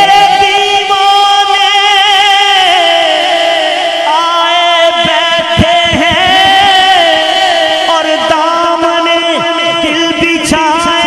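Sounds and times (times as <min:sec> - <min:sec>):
voices singing devotional chant: 0:00.0 - 0:11.0.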